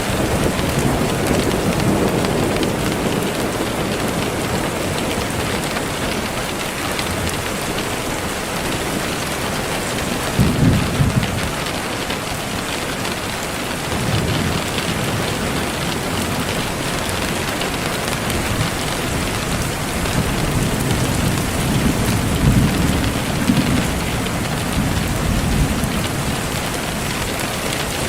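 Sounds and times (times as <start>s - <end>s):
low thunder rolls: 0.0s - 6.6s, 10.3s - 12.1s, 13.8s - 28.0s
heavy rain: 0.0s - 28.0s.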